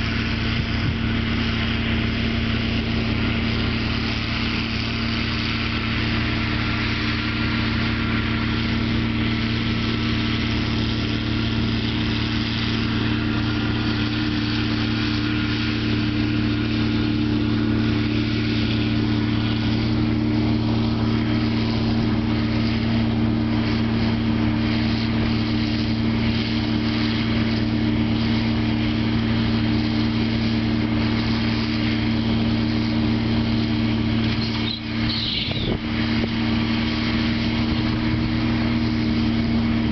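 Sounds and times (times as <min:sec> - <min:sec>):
round baler working: 0:00.0 - 0:39.9
tractor diesel engine running: 0:00.0 - 0:39.9.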